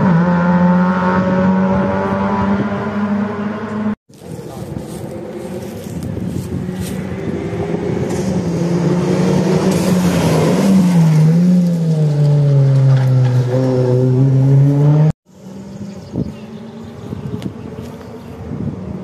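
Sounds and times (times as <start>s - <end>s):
rally car engine approaching: 0.0s - 19.0s.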